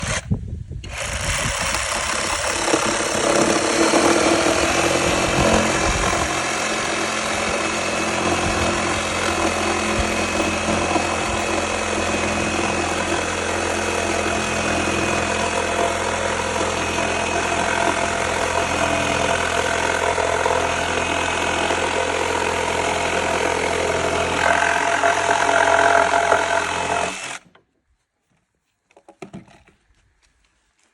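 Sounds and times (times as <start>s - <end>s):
saber saw cutting wood: 0.0s - 27.5s.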